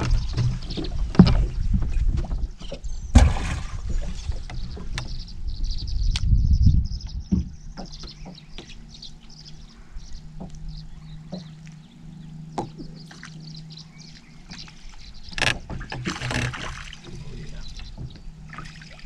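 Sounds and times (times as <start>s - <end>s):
electric boat motor hum: 0.0s - 19.0s.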